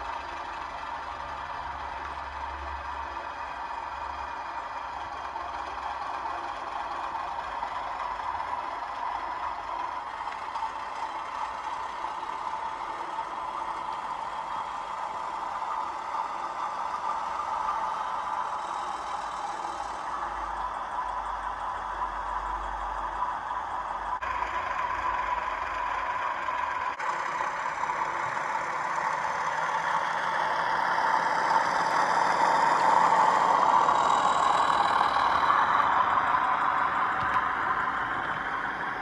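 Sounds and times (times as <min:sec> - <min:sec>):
diesel engine sound from small speaker: 0:00.0 - 0:39.0.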